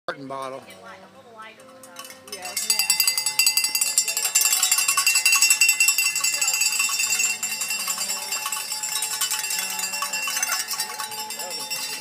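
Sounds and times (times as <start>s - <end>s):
cowbells clanging: 1.6s - 12.0s.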